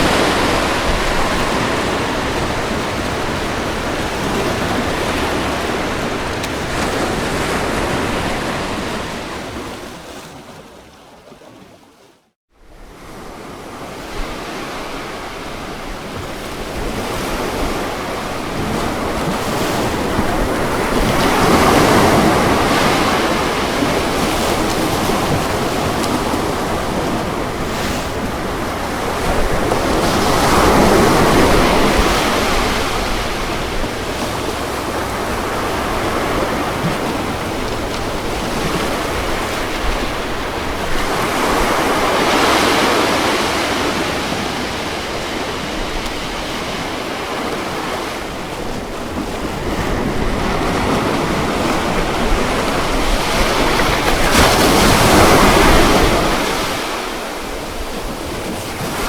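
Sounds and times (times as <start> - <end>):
ocean waves breaking on beach: 0.0 - 59.0
wind: 0.0 - 59.0.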